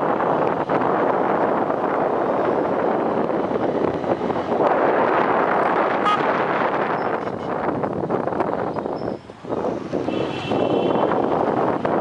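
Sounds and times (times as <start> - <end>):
wind rush over microphone: 0.0 - 12.0.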